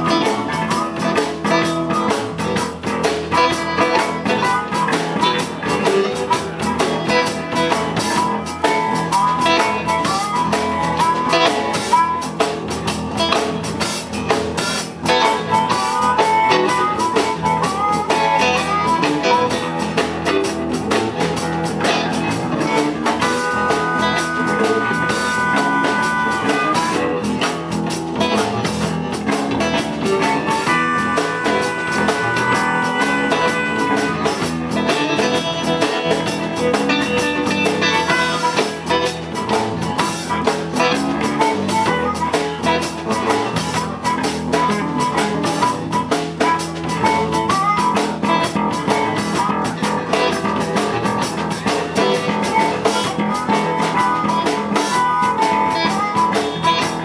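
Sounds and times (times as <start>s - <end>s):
amplified harmonica: 0.0s - 57.0s
blues-rock band playing: 0.0s - 57.0s.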